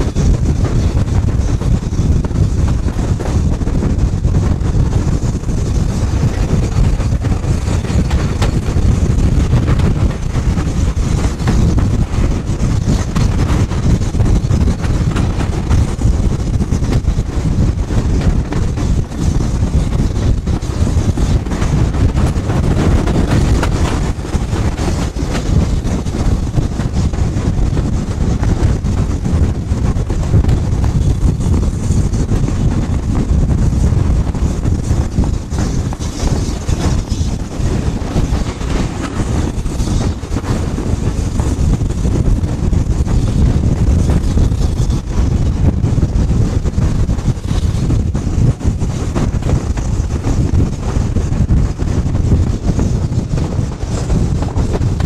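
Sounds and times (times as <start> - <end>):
train rumble: 0.0 - 55.0
wind buffeting microphone: 0.0 - 55.0.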